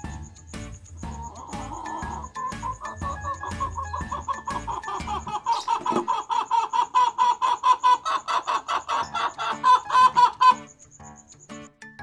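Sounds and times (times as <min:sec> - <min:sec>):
faint high pulsing chirp: 0:00.0 - 0:12.0.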